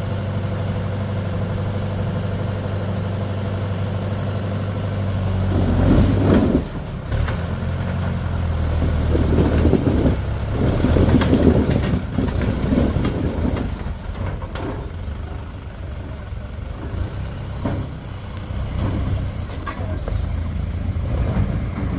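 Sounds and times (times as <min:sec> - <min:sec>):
diesel engine humming: 0:00.0 - 0:21.9.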